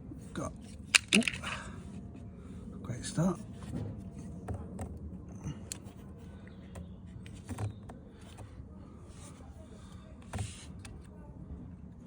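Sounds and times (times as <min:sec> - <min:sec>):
low steady background hum: 0:00.0 - 0:12.0.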